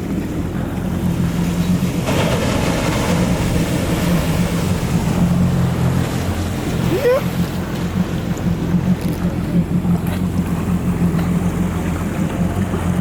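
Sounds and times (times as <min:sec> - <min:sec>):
motorboat engine idling: 0:00.0 - 0:13.0
sea wash: 0:00.0 - 0:13.0.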